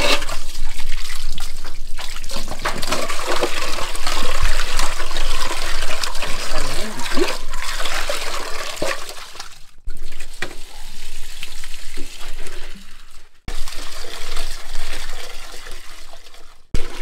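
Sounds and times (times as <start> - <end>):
water splashing into metal basin: 0.0 - 17.0.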